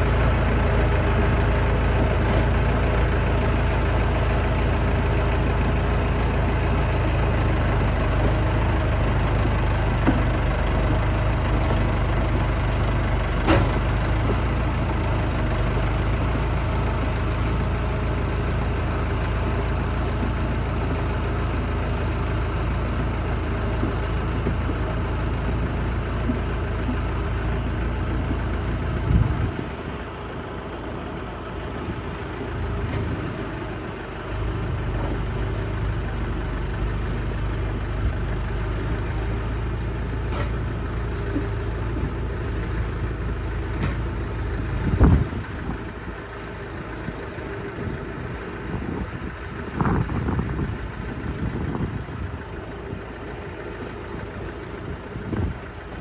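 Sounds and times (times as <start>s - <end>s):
bulldozer engine running under load: 0.0s - 56.0s.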